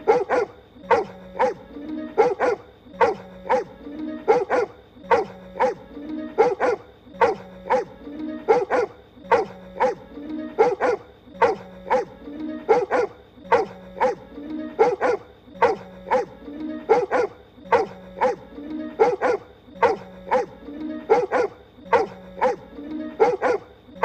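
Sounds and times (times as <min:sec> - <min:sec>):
faint steady background tones: 0:00.0 - 0:24.0
voiced dog-like barks: 0:00.0 - 0:24.0.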